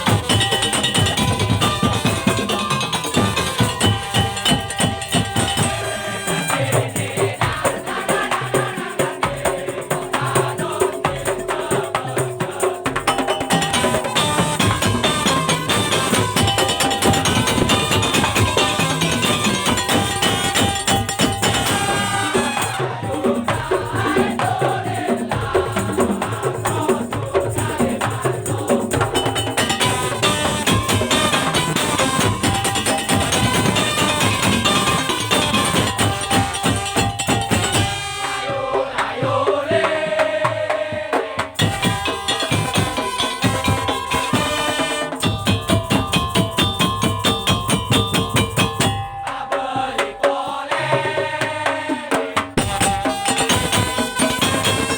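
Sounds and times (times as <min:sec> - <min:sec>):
percussion ensemble playing: 0:00.0 - 0:54.9.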